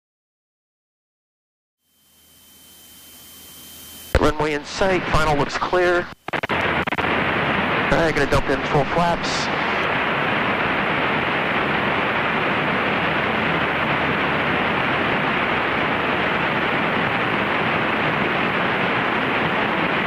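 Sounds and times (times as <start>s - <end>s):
aircraft cockpit engine hiss: 2.1s - 20.0s.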